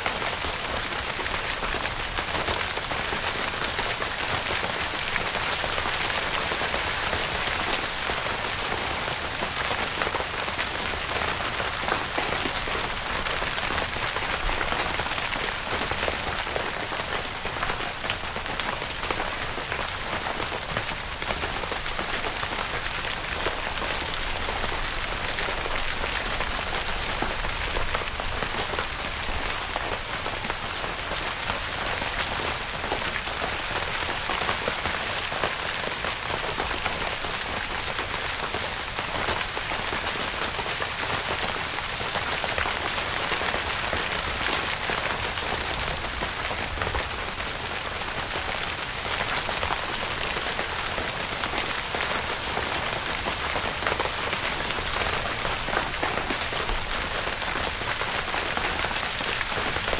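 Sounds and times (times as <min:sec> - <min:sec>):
rain on tent fabric: 0:00.0 - 0:59.9.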